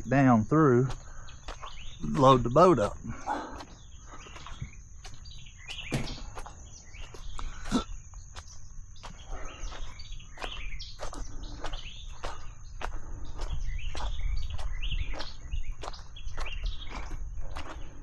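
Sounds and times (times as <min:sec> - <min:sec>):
footsteps walking: 0:00.0 - 0:18.0
small birds chirping: 0:00.0 - 0:18.0.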